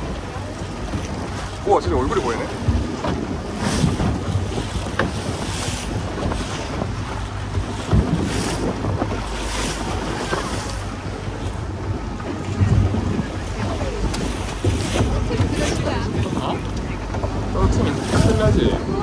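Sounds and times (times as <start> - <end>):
motorboat motor droning: 0.0 - 19.0
water splashing against hull: 0.0 - 19.0
wind buffeting microphone: 0.0 - 19.0.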